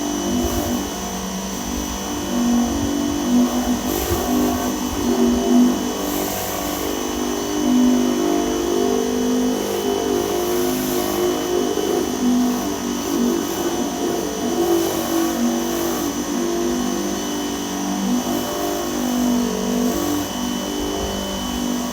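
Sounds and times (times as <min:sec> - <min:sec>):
high whine: 0:00.0 - 0:21.9
pressure washer motor hum: 0:00.0 - 0:21.9.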